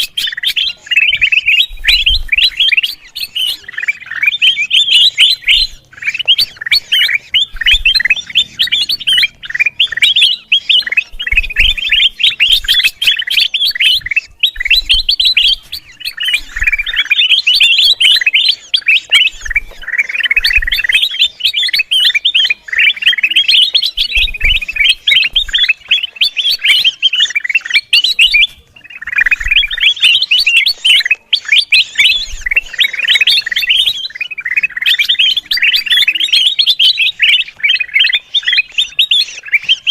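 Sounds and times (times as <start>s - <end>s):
bulbul chirping chatter: 0.0s - 39.9s.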